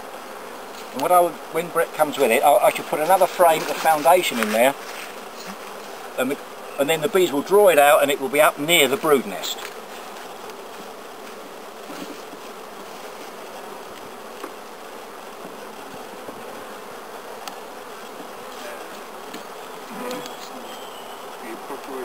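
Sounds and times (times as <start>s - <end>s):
bees buzzing: 0.0s - 22.0s
wooden hive frames knocking: 0.8s - 20.6s.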